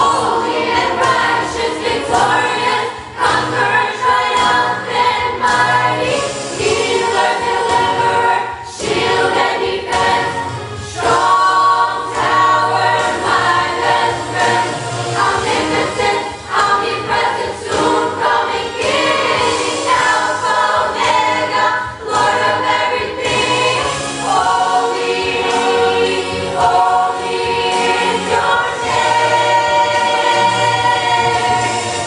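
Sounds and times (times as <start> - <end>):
church choir singing: 0.0 - 32.0.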